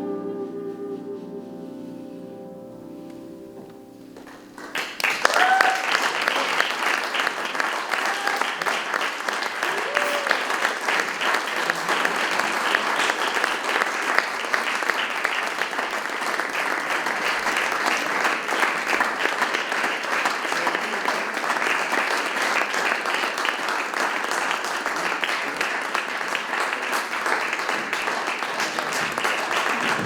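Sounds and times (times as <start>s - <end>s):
audience applauding: 4.2s - 30.0s.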